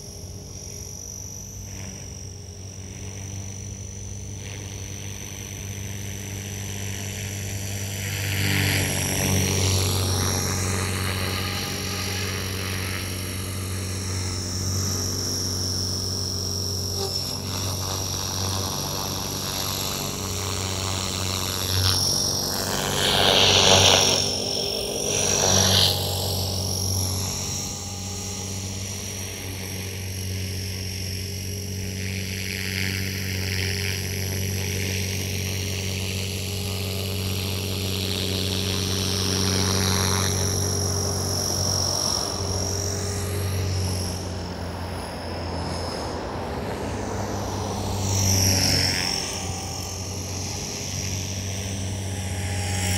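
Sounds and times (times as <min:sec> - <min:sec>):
helicopter rotor drone: 0:00.0 - 0:52.9
high motor whine: 0:00.0 - 0:52.9.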